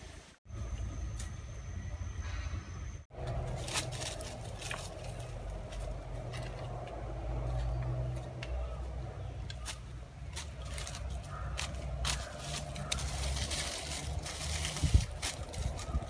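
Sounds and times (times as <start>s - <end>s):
dry leaf litter crackling underfoot: 3.1s - 16.0s
leafy plants rustling: 3.1s - 16.0s.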